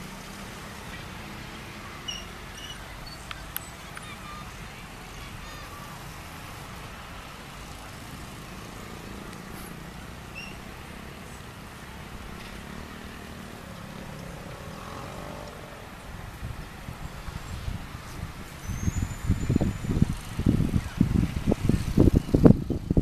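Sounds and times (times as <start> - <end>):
vehicle passing by: 0.0 - 23.0.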